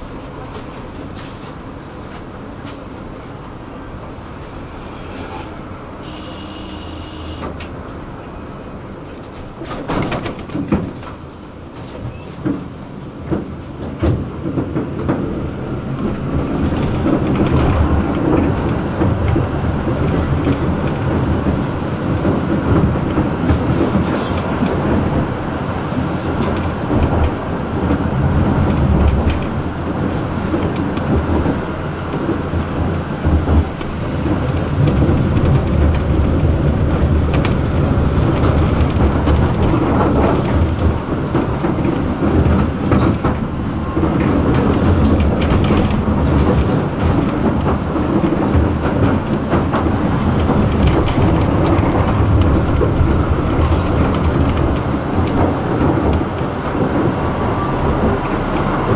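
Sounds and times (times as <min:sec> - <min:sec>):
tram wheels rumbling on rails: 0:00.0 - 0:58.9
track clacks and knocks: 0:08.8 - 0:58.9.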